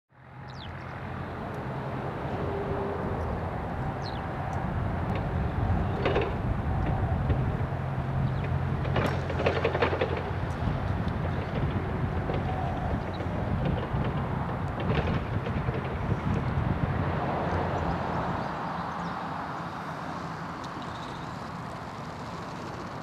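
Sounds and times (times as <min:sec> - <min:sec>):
low mechanical hum: 0:00.2 - 0:23.0.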